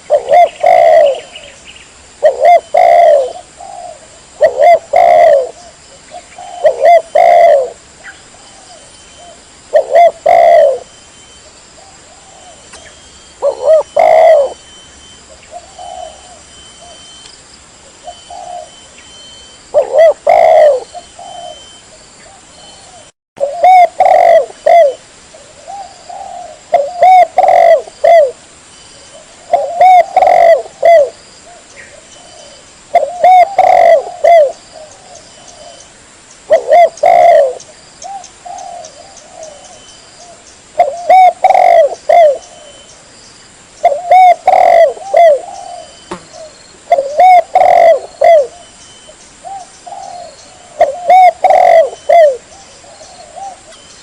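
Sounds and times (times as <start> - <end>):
dove cooing: 0.0 - 1.6, 2.2 - 10.9, 11.8 - 17.2, 17.9 - 28.4, 29.0 - 35.9, 36.5 - 42.9, 43.8 - 48.8, 49.4 - 54.0.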